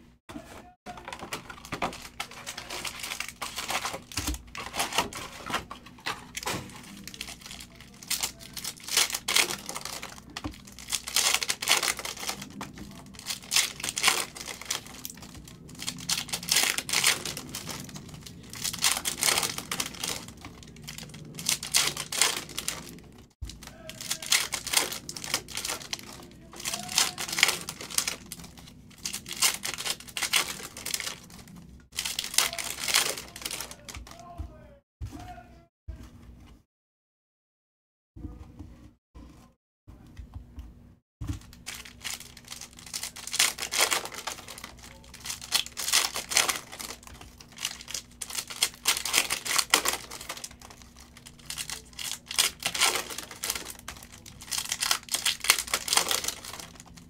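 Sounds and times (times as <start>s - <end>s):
foil wrappers crinkling and tearing: 0.9s - 34.4s, 41.3s - 57.0s.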